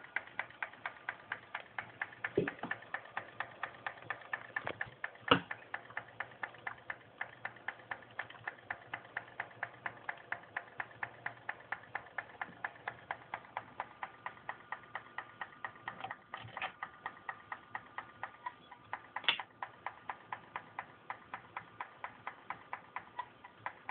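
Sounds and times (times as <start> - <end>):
hard drive clicking: 0.0 - 23.9.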